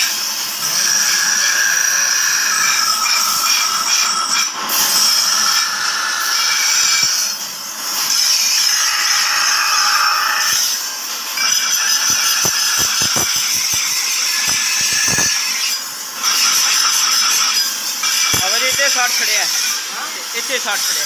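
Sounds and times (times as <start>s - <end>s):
trowel grinding on grinding wheel: 0.0s - 21.0s.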